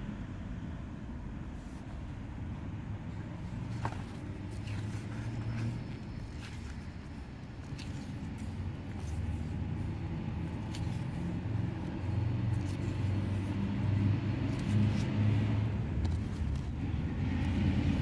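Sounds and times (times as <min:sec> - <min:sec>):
vehicle engine rumbling: 0:00.0 - 0:18.0
book pages turning: 0:03.2 - 0:18.0.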